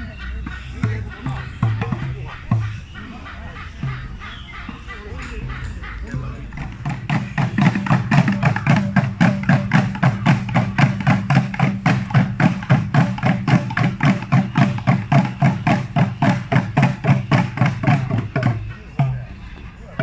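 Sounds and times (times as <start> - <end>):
hollow low drum beat: 0.0 - 20.0.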